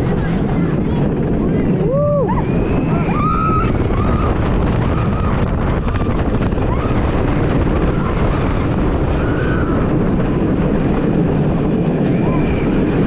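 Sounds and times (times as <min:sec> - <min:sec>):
roller coaster train rumbling: 0:00.0 - 0:13.0
wind rushing on microphone: 0:00.0 - 0:13.0.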